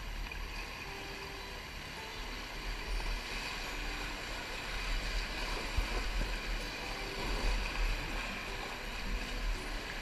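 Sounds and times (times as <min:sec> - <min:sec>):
rushing whitewater: 0:00.0 - 0:10.0.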